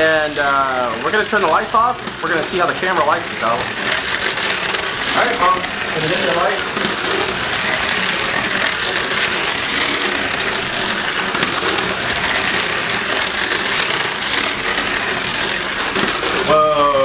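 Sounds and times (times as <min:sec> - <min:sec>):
toy car motor whirring: 0:00.0 - 0:17.0.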